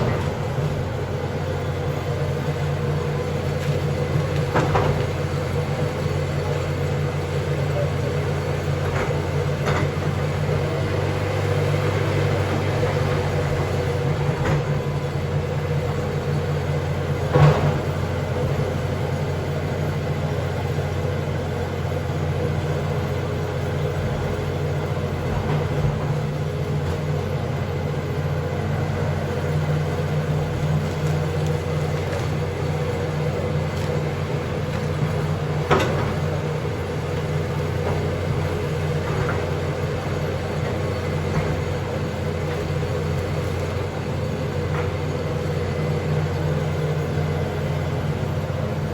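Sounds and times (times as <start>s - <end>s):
backhoe engine running: 0.0s - 48.9s.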